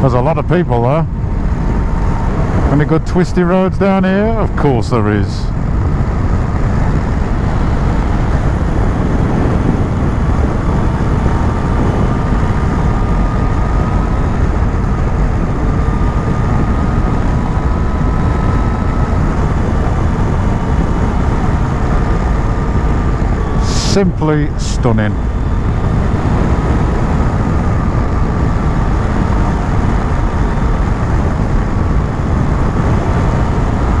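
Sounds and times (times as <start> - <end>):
faint steady whine: 0.0 - 34.0
wind and road noise: 0.0 - 34.0
motorcycle engine running: 0.8 - 2.9, 5.5 - 34.0.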